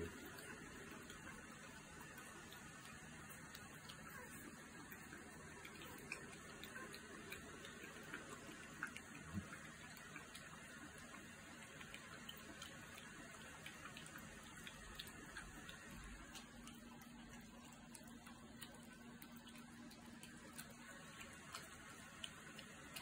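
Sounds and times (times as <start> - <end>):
puppies suckling: 0.0 - 23.0.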